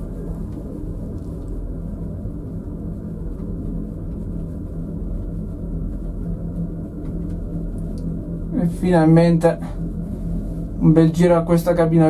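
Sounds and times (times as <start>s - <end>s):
gondola cabin rumble and hum: 0.0s - 12.0s.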